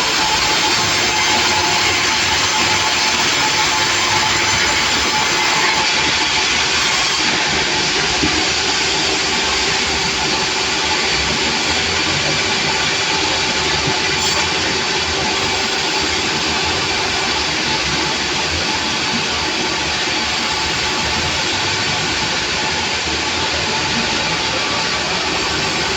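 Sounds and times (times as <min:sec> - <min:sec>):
sawmill machinery running: 0:00.0 - 0:25.9.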